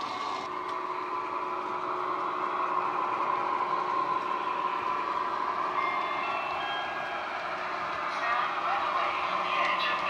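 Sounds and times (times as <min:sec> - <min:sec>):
model train diesel engine sound: 0:00.0 - 0:10.0.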